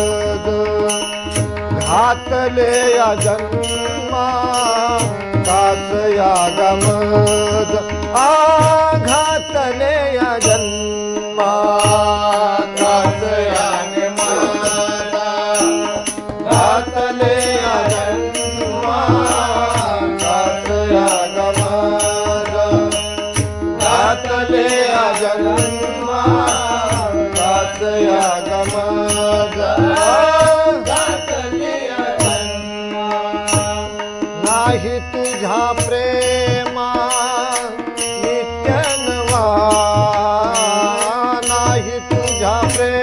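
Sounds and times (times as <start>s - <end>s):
harmonium melody: 0.0s - 43.0s
tabla strokes: 0.0s - 43.0s.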